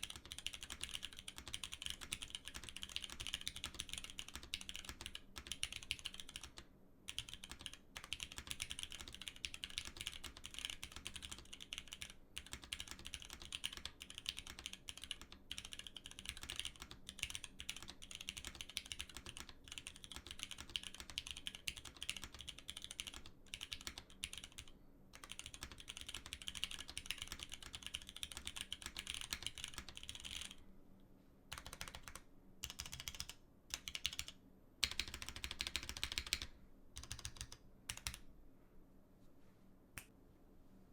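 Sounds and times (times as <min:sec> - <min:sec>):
fast keyboard typing: 0:00.0 - 0:30.6, 0:31.5 - 0:38.2.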